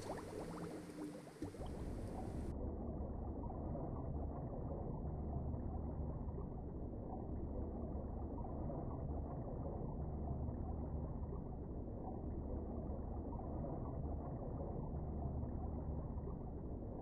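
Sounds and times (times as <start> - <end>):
underwater low rumble: 0.0 - 17.0.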